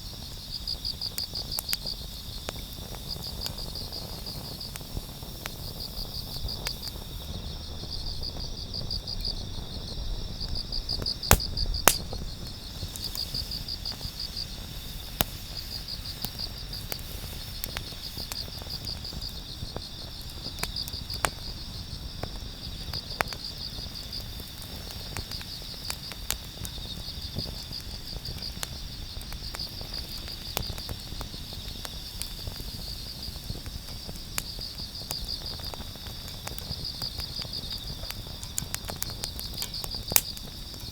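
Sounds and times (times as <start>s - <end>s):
campfire pops and crackles: 0.0s - 40.9s
insects chirping trills: 0.0s - 40.9s.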